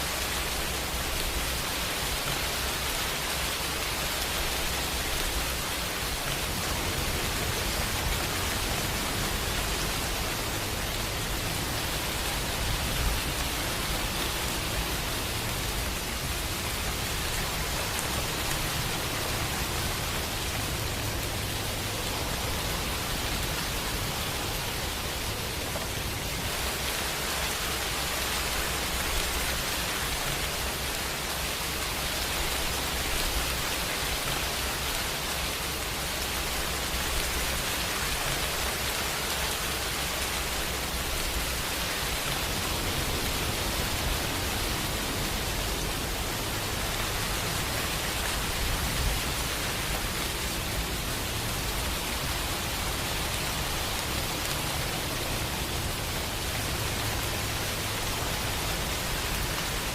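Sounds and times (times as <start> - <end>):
dense rain hiss: 0.0 - 59.9.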